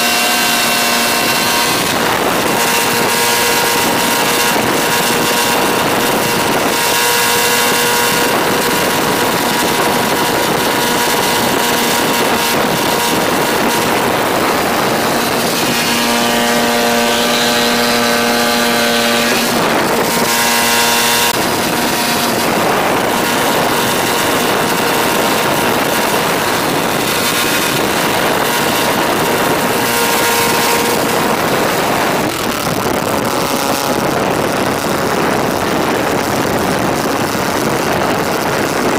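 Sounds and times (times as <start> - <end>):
two-stroke engine running loud: 0.0 - 38.9.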